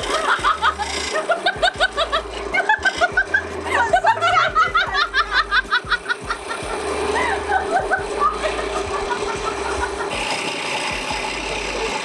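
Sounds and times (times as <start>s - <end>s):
woman laughing: 0.0s - 10.2s
steady hum: 0.0s - 12.0s.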